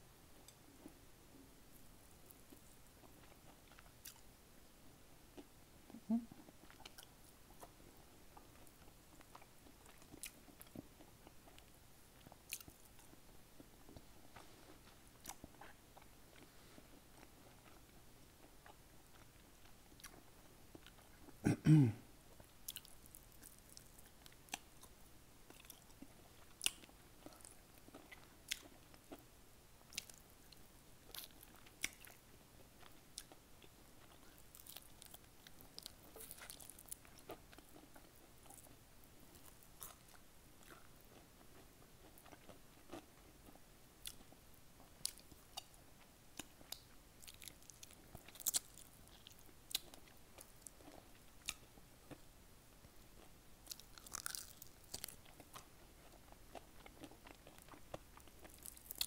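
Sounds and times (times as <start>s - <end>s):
person chewing fried chicken: 5.4s - 7.8s, 8.4s - 21.4s, 22.4s - 29.3s, 29.9s - 52.3s, 53.1s - 59.0s.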